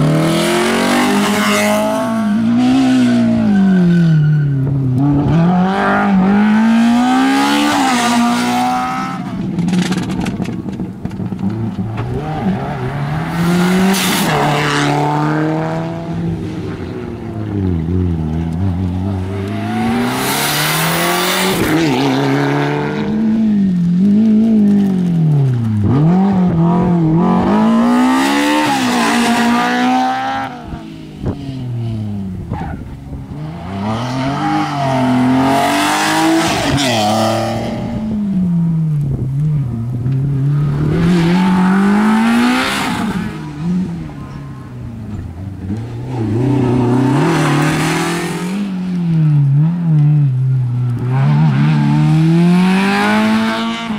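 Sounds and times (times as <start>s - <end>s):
rally car engines revving past: 0.0s - 53.9s.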